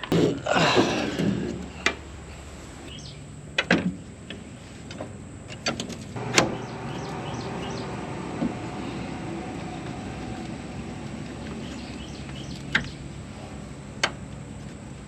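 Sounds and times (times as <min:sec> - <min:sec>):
low steady hum: 0:00.3 - 0:04.9, 0:06.0 - 0:15.0.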